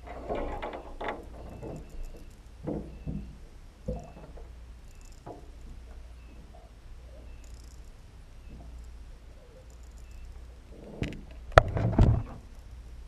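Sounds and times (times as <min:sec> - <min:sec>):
underwater low hum: 0:00.0 - 0:13.0.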